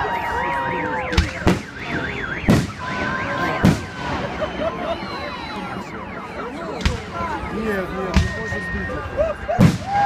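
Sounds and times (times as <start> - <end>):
car alarm wailing: 0.0 - 9.5
whistling fireworks tones: 0.0 - 10.0
fireworks bangs: 0.3 - 6.0, 6.7 - 9.0, 9.6 - 10.0.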